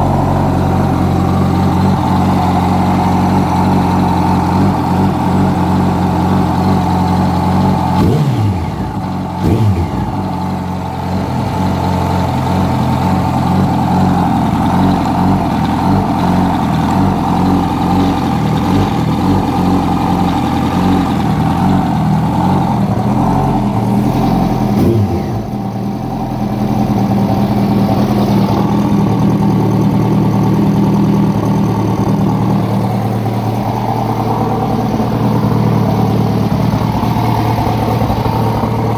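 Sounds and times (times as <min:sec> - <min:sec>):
motorcycle engine idling and blipping: 0:00.0 - 0:38.9.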